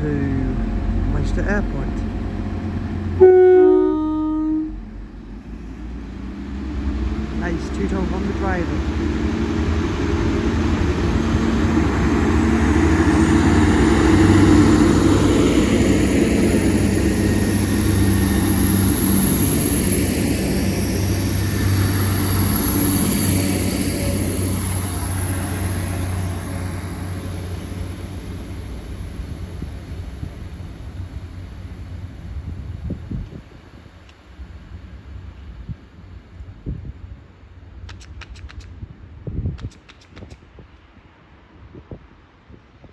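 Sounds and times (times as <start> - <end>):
diesel train accelerating past: 0.0 - 39.2.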